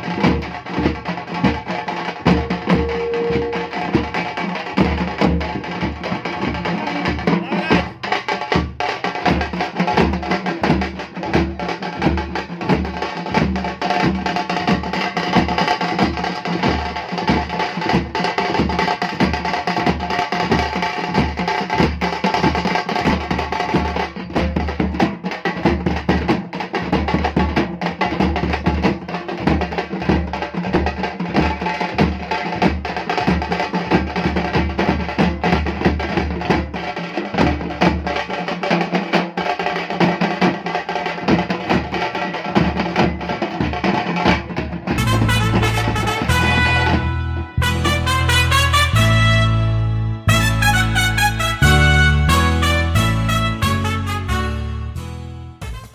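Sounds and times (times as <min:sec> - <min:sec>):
drum troupe playing fast rhythm: 0:00.0 - 0:55.9.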